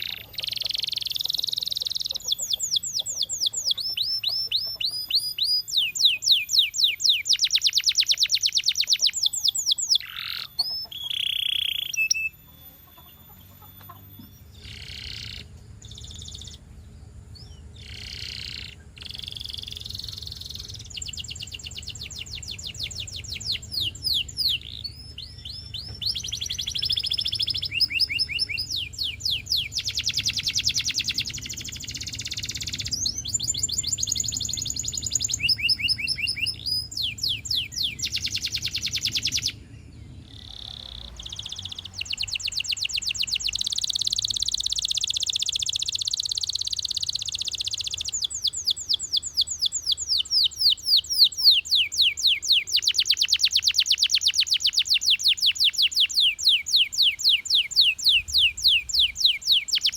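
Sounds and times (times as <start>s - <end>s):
canary singing trills: 0.0s - 59.9s
faint low hum: 0.0s - 59.9s.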